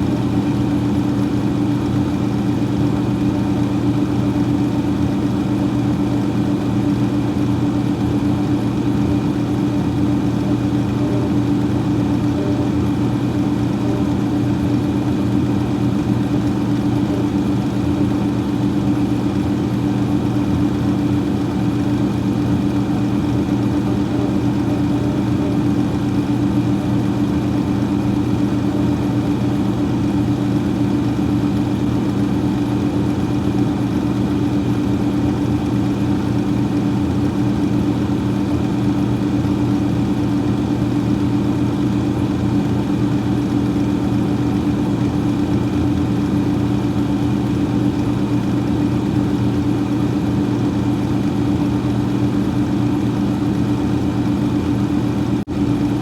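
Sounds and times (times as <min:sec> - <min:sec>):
freezer fan hum: 0:00.0 - 0:56.0.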